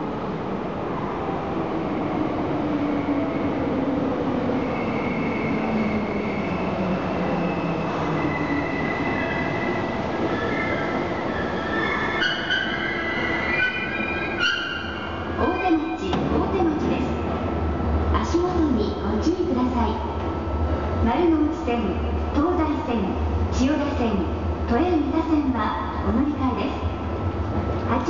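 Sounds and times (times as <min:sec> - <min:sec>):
subway train running hum: 0:00.0 - 0:28.0.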